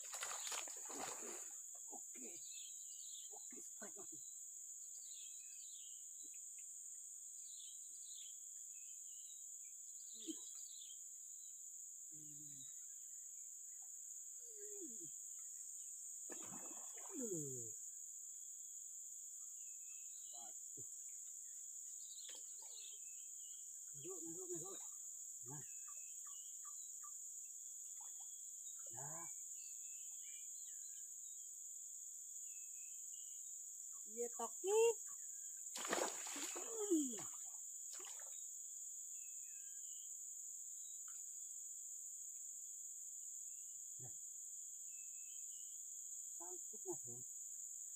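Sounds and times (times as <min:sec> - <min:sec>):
insects droning: 0:00.0 - 0:47.9.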